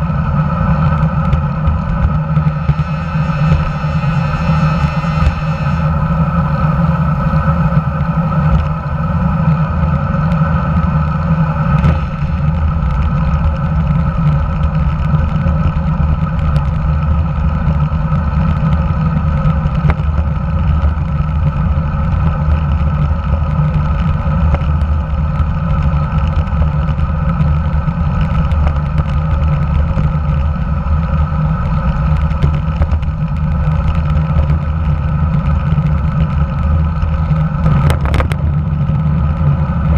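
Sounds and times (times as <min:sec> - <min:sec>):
road and tyre noise: 0:00.0 - 0:39.9
wind buffeting: 0:00.0 - 0:39.9.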